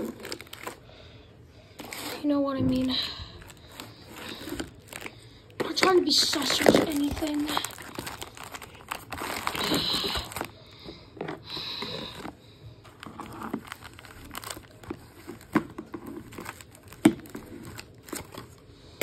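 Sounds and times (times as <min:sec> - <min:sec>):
plastic packaging crinkling: 0:00.0 - 0:01.0, 0:01.8 - 0:19.0.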